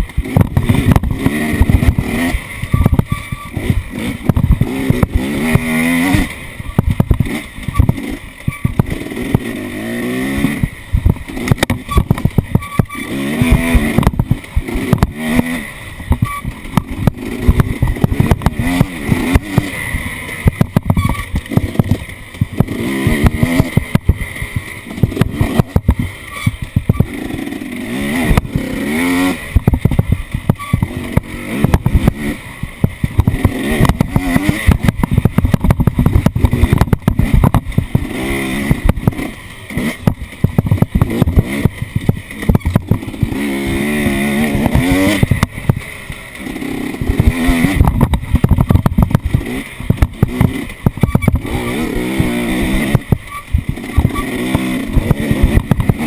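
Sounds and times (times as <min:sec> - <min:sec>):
off-road vehicle engine revving: 0:00.0 - 0:56.0
knocks and rattles: 0:10.4 - 0:27.6, 0:28.2 - 0:56.0.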